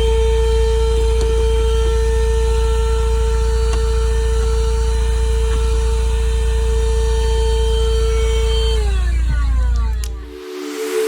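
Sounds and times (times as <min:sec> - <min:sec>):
handheld vacuum cleaner motor: 0:00.0 - 0:11.0.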